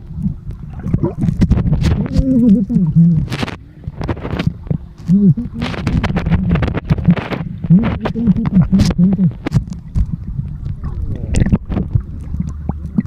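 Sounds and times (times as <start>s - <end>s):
knocks and rubbing on microphone: 0.9s - 12.1s.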